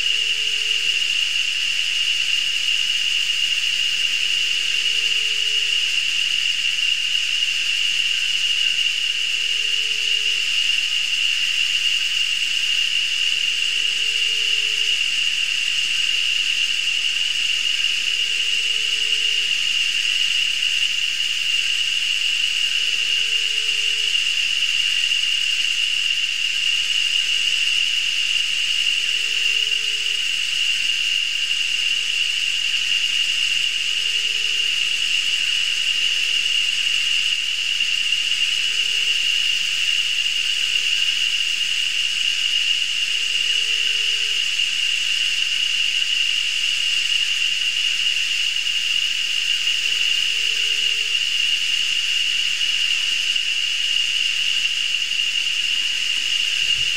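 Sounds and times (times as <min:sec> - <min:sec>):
shrill insect chorus: 0:00.0 - 0:56.9.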